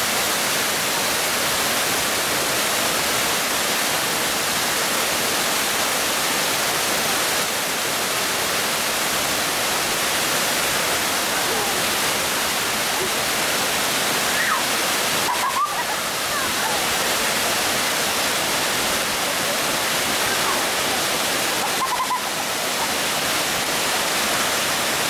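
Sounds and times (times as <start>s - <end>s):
waterfall splashing onto rock: 0.0s - 25.0s.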